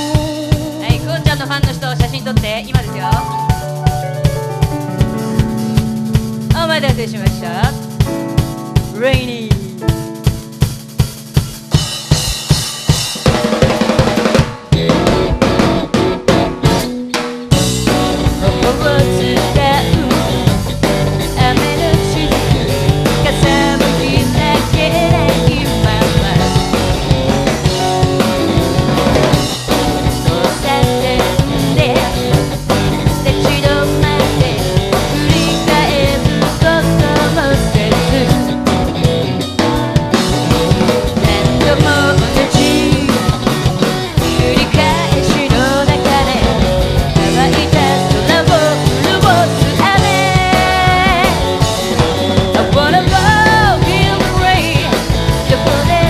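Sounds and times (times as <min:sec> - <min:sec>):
drum kit beat: 0:00.0 - 0:56.0
live rock band playing: 0:00.0 - 0:56.0.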